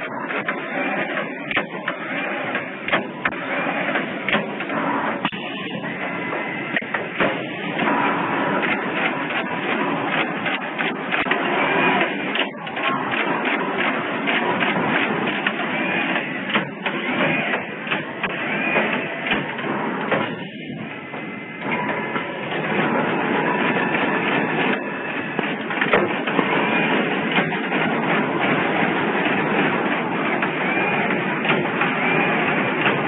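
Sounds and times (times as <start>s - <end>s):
dense mechanical clicking: 0.0s - 33.0s
steady machine noise: 0.0s - 33.0s.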